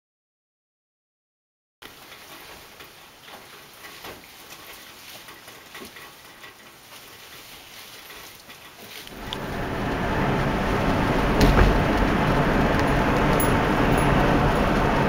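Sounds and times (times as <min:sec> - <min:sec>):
light rain hiss: 0:01.8 - 0:15.0.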